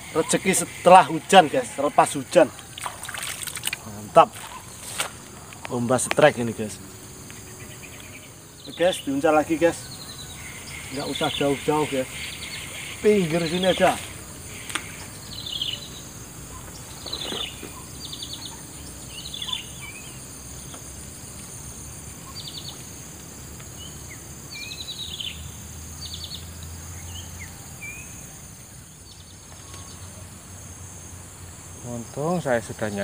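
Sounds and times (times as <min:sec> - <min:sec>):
birds chirping and trilling: 0:00.0 - 0:33.0
insects droning: 0:00.0 - 0:33.0.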